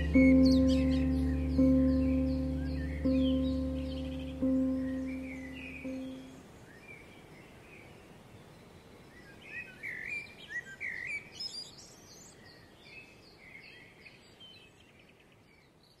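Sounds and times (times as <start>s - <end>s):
songbirds singing and chirping: 0.0s - 16.0s.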